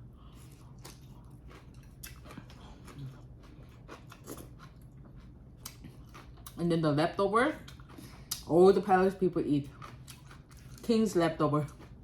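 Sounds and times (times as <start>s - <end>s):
person chewing: 0.0s - 6.6s, 7.6s - 11.0s, 11.6s - 12.0s.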